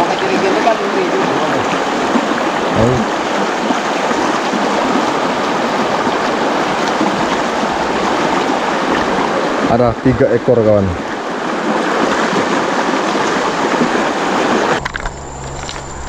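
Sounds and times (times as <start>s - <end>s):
river rushing over rocks: 0.0s - 9.8s, 11.0s - 16.0s.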